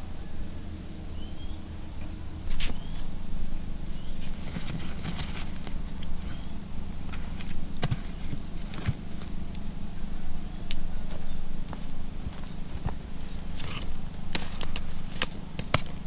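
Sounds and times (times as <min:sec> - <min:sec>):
fat and coals crackling: 0:00.0 - 0:16.0
fish grilling over charcoal: 0:02.4 - 0:16.0.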